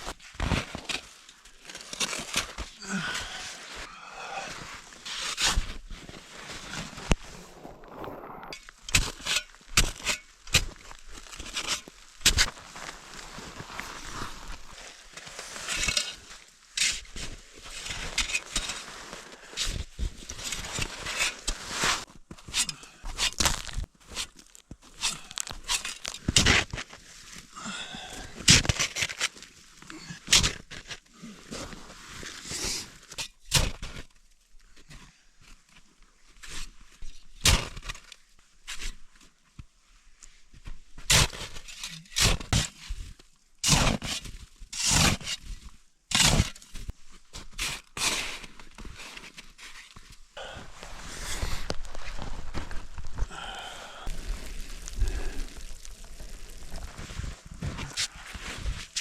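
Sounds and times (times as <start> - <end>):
shovel scraping and crunching snow: 0.0 - 34.2, 36.4 - 39.3, 40.6 - 59.0.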